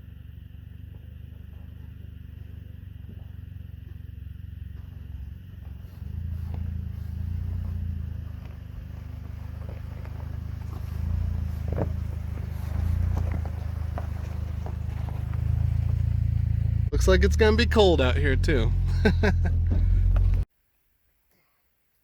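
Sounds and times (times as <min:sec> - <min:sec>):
car engine and road rumble: 0:00.0 - 0:20.5.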